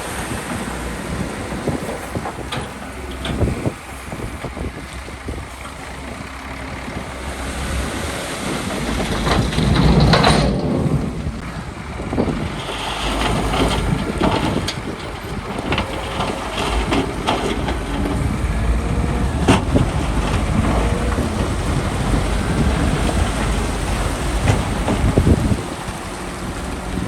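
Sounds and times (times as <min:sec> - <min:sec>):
heavy machinery rumbling: 0:00.0 - 0:27.0.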